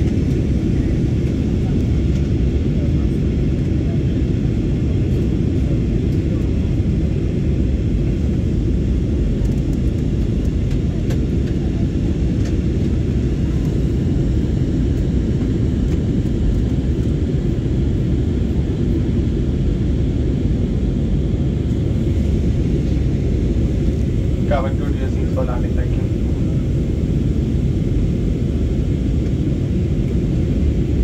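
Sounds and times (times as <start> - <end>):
jet airliner cabin roar: 0.0 - 31.0.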